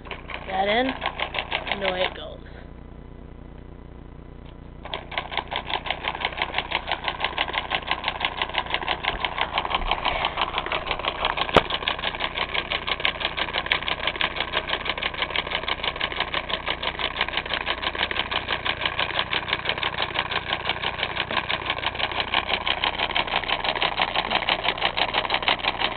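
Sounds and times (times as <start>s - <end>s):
solenoid engine clacking: 0.0s - 2.4s, 4.4s - 25.9s.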